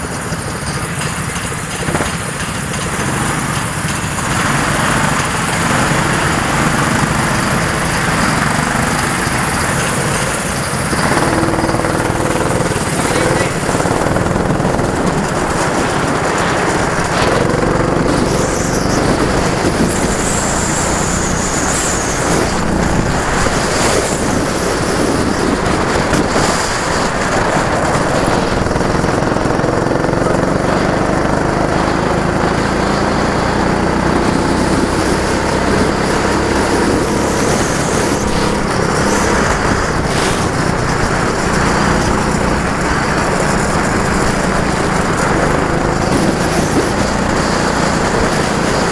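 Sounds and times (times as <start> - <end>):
go-kart engine revving: 0.0 - 48.9
rushing noise: 0.0 - 48.9.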